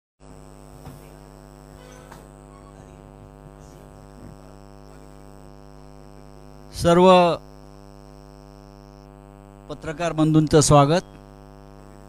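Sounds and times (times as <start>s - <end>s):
electrical mains hum: 0.2s - 12.0s.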